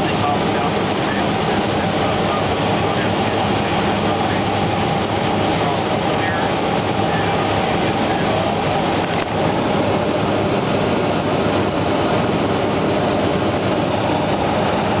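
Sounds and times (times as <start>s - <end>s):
aircraft cabin drone in flight: 0.0s - 15.0s.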